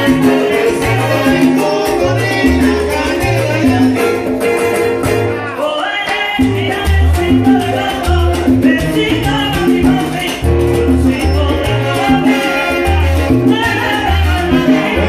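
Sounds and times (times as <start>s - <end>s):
congas and timbales: 0.0s - 15.0s
salsa band playing: 0.0s - 15.0s.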